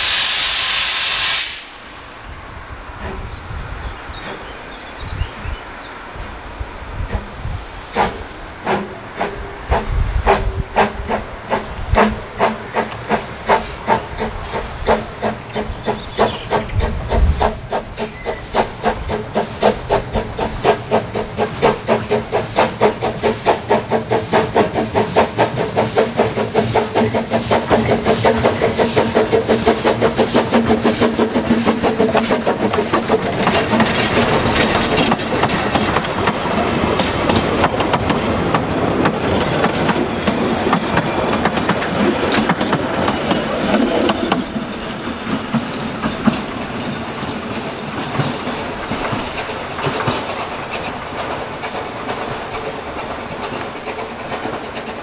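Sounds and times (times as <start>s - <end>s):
steam locomotive exhaust beats: 0.0s - 5.5s, 6.8s - 55.0s
wheels clattering on rails: 6.9s - 55.0s.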